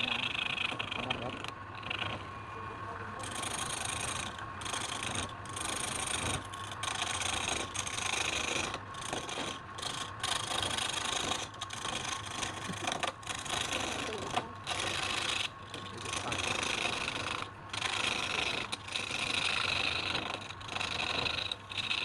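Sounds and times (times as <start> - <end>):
tool scraping wood on lathe: 0.0 - 22.0.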